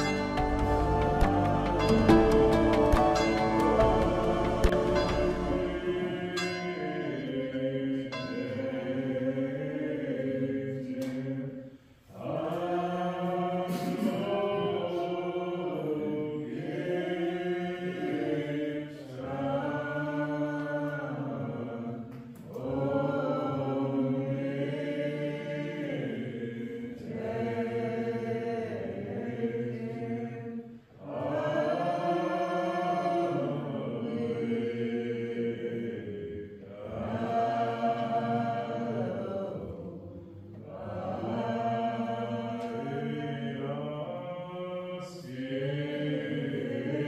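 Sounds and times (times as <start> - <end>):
voices singing a hymn: 0.0 - 47.0.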